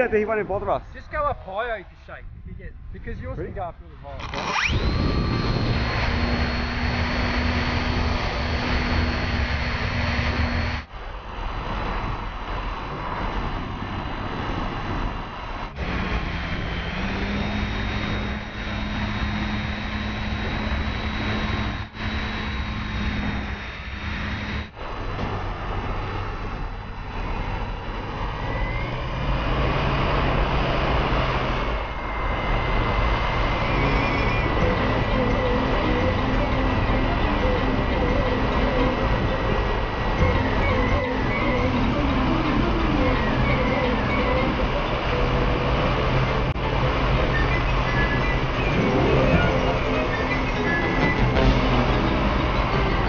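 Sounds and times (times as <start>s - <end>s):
electric motor and propeller whine: 3.9s - 53.0s.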